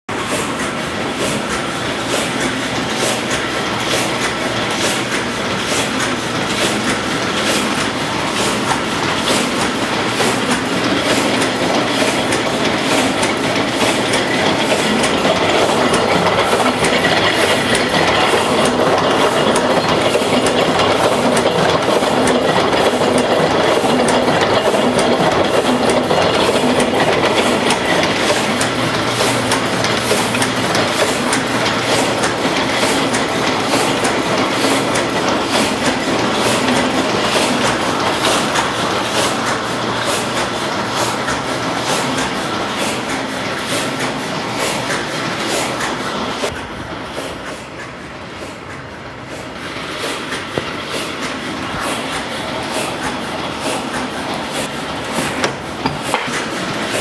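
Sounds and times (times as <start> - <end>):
printing press clattering: 0.1 - 57.0.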